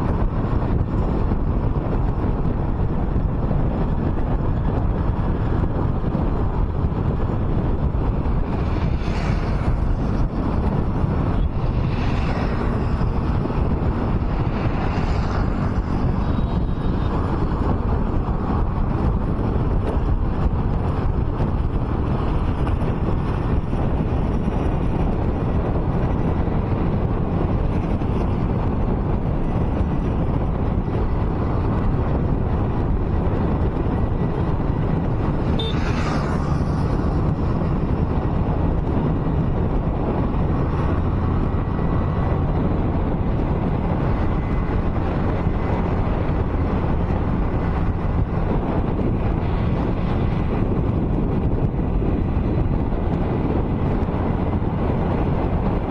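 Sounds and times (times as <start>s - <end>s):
car road and engine noise: 0.0s - 55.9s
wind buffeting microphone: 0.0s - 55.9s.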